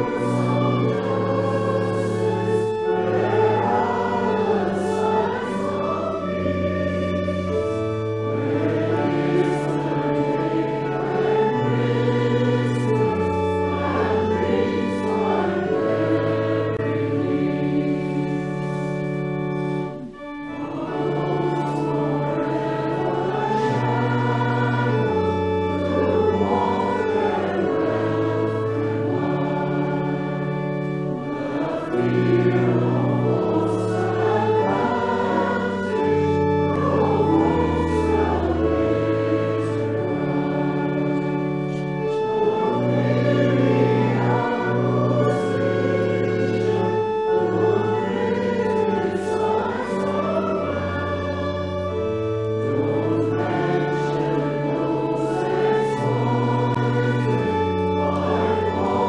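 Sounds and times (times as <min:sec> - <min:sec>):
group singing a hymn: 0:00.0 - 0:59.0
held accompanying chords: 0:00.0 - 0:59.0.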